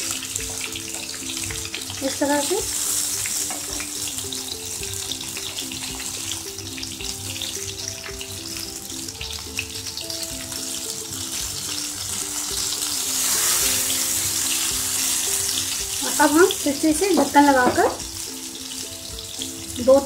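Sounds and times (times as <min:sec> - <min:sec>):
food sizzling in oil: 0:00.0 - 0:20.0
soft background music: 0:00.0 - 0:20.0.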